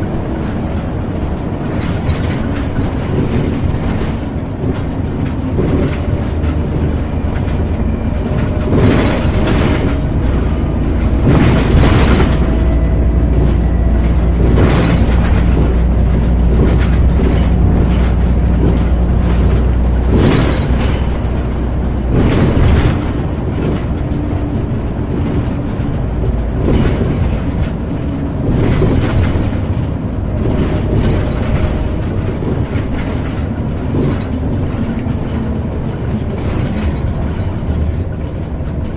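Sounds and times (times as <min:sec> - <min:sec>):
bus body knocks and rattles: 0:00.0 - 0:38.9
bus engine and road drone: 0:00.0 - 0:38.9.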